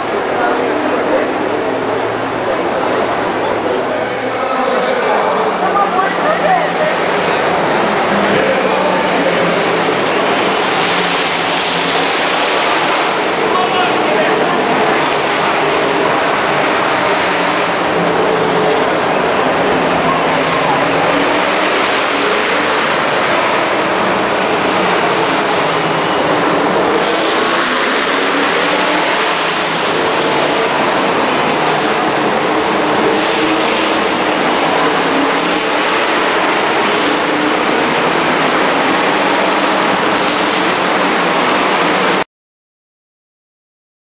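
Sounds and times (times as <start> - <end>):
race car engines droning: 0.0 - 42.2.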